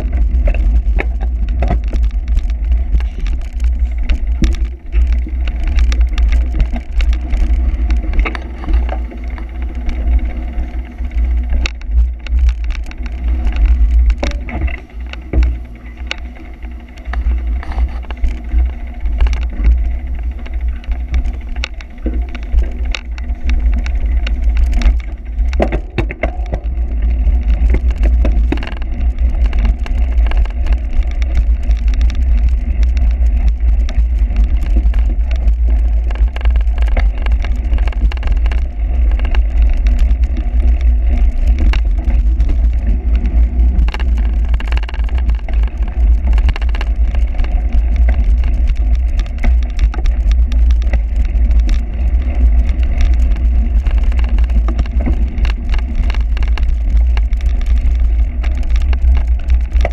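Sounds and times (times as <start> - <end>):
bike rattling over rough ground: 0.0 - 59.9
wind rumble on microphone: 0.0 - 59.9.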